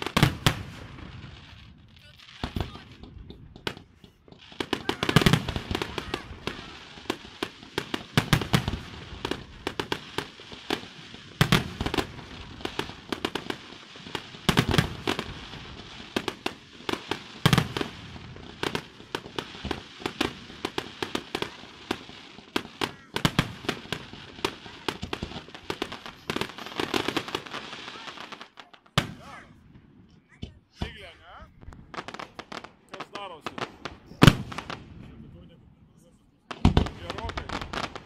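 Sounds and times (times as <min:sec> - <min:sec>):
firework crackling: 0:00.0 - 0:30.0, 0:30.6 - 0:35.2, 0:36.4 - 0:38.0
firework shells booming: 0:00.0 - 0:35.2, 0:36.5 - 0:38.0.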